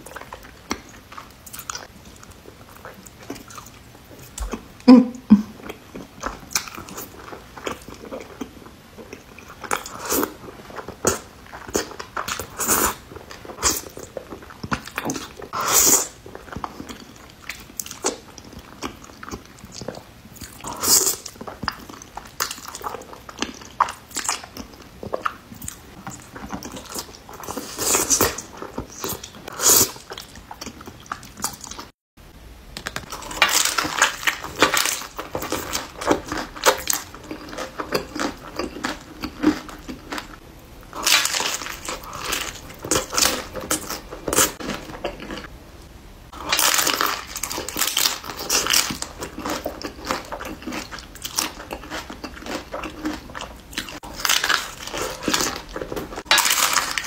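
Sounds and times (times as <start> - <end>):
wet chewing and slurping: 5.6 - 32.0, 33.0 - 45.5, 46.3 - 57.0.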